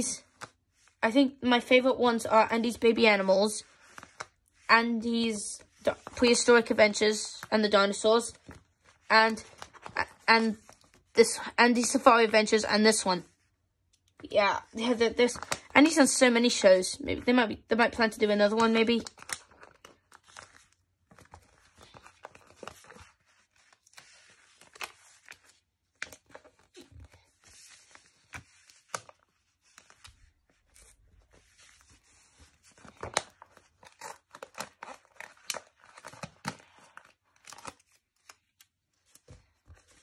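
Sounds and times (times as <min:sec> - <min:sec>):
sticker sheets rustling: 0:01.6 - 0:13.0, 0:18.0 - 0:40.0.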